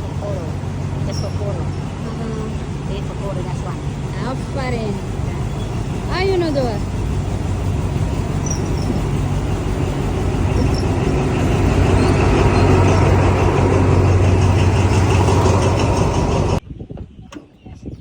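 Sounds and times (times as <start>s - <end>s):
motor engine humming: 0.0s - 16.6s.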